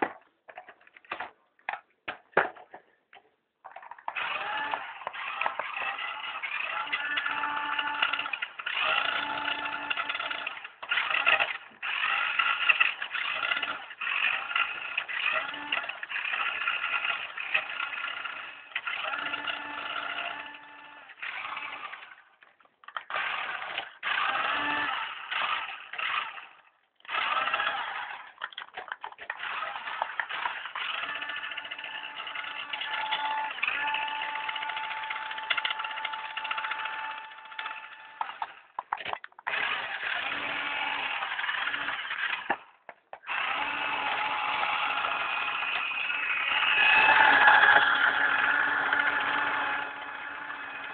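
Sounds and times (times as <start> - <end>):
toy car motor whining: 3.8 - 50.9.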